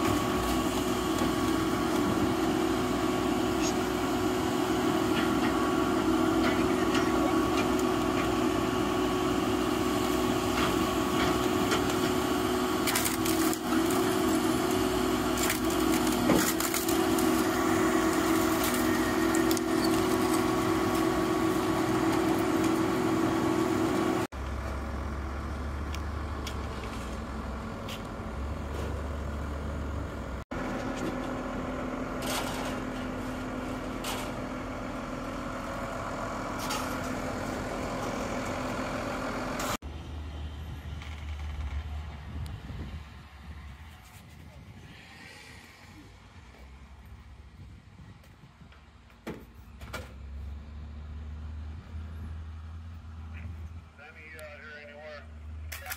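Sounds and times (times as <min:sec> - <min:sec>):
diesel engine and hydraulics running: 0:00.0 - 0:55.9.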